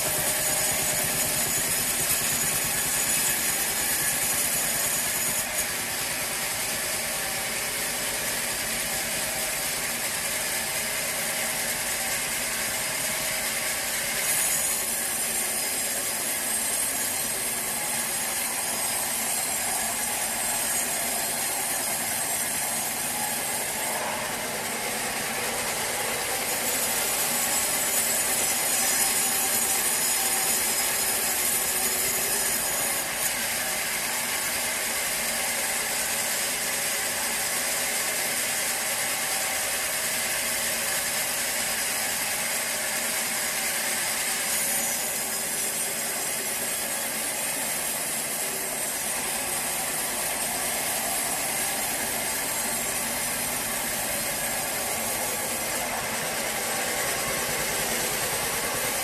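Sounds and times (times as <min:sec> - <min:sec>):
band saw running with whine: 0:00.0 - 0:59.0.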